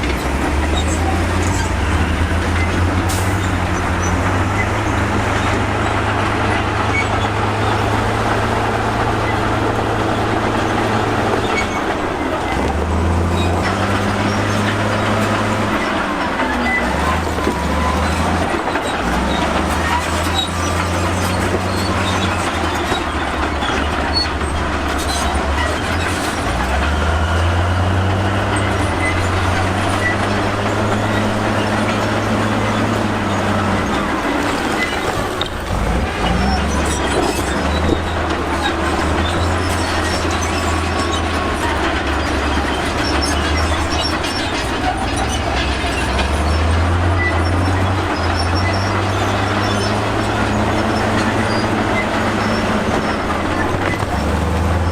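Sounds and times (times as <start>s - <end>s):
bulldozer diesel engine under load: 0.0s - 54.9s
steel tracks clanking and squealing: 0.0s - 54.9s.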